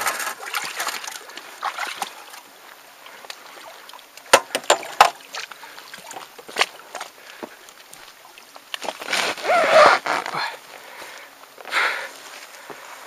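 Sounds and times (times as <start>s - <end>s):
water sloshing against kayak: 0.0s - 11.2s.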